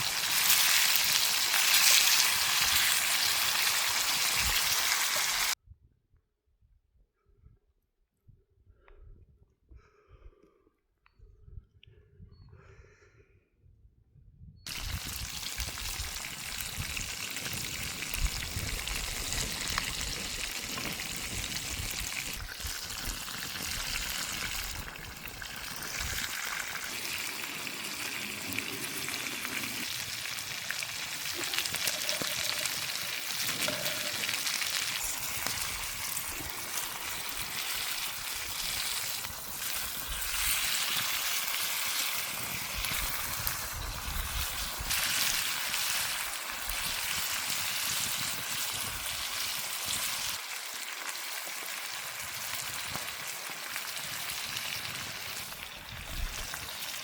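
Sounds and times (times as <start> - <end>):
chicken sizzling on a grill: 0.0 - 5.6, 14.7 - 57.0.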